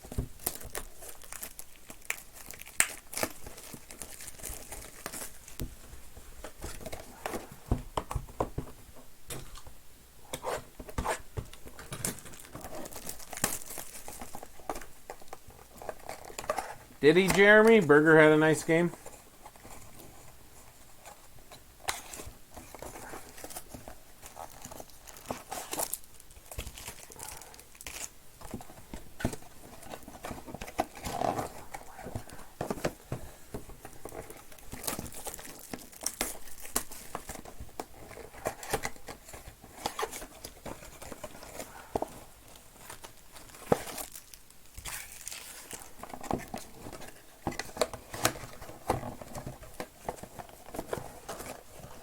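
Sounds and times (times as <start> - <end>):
wrappers crinkling and tearing: 0.4 - 5.6, 11.0 - 19.0, 21.9 - 33.0, 33.8 - 52.0.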